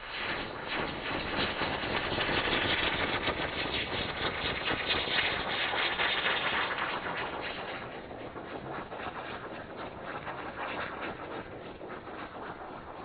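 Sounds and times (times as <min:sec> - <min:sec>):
firework hissing and crackling: 0:00.0 - 0:12.6.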